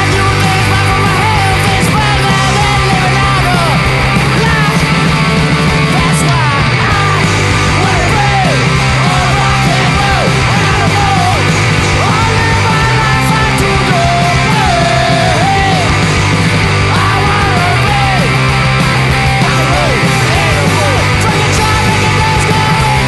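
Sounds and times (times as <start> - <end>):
bass guitar: 0.0 - 23.0
distorted electric guitars: 0.0 - 23.0
drums: 0.0 - 23.0.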